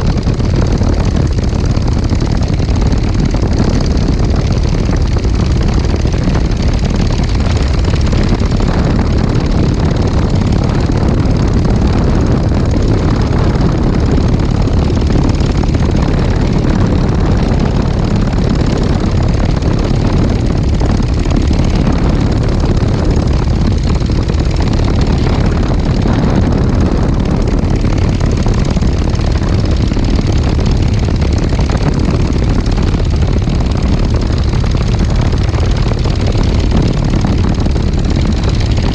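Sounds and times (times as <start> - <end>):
ultralight aircraft engine drone: 0.0 - 38.9.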